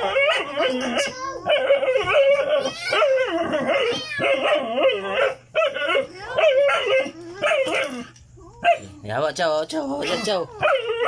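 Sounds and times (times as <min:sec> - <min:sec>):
dog whining and yipping: 0:00.0 - 0:09.0, 0:10.1 - 0:11.0.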